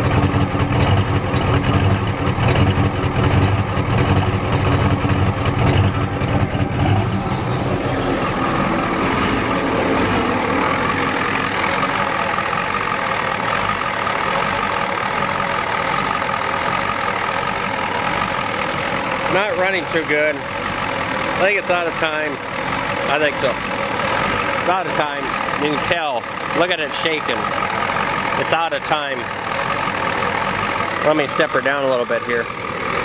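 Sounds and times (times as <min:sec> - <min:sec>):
diesel engine idling rough: 0:00.0 - 0:33.0.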